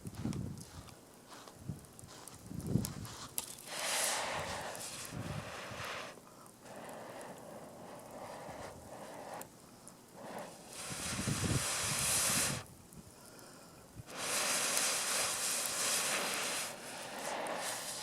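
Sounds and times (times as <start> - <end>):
air blown onto campfire: 0.0 - 18.0.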